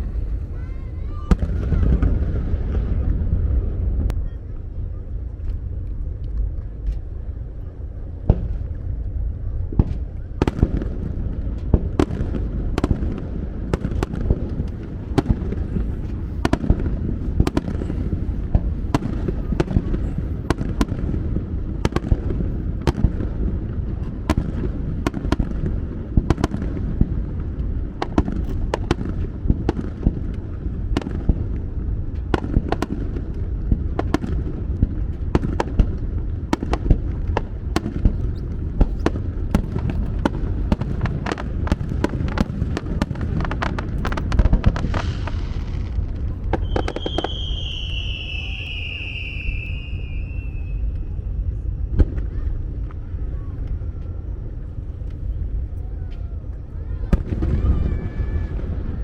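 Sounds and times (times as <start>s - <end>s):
fireworks bangs: 0.0s - 7.2s, 7.9s - 59.0s
low rumble: 0.0s - 59.0s.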